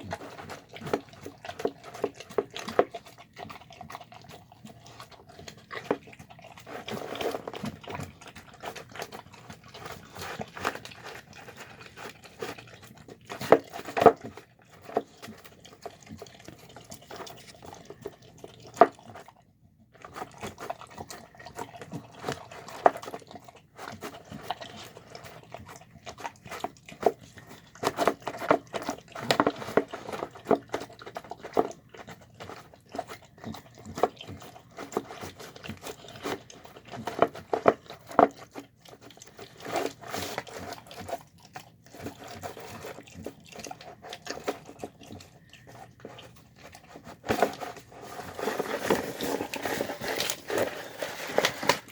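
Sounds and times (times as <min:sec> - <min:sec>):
dog eating wet food from bowl: 0:00.0 - 0:51.9.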